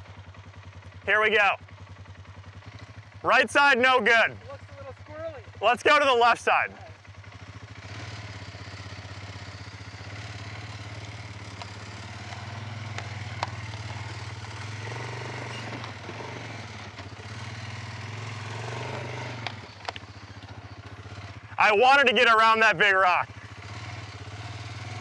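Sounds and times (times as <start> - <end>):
atv engine running at low revs: 0.0 - 25.0.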